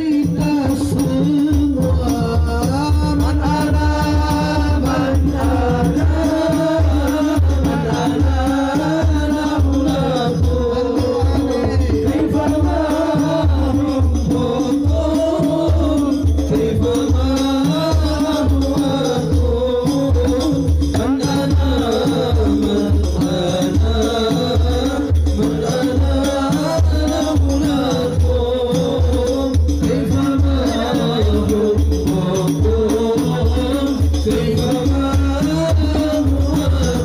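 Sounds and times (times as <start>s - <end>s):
low drum beat: 0.0s - 37.0s
men chanting into microphones: 0.0s - 37.0s
rattling percussion: 0.0s - 37.0s.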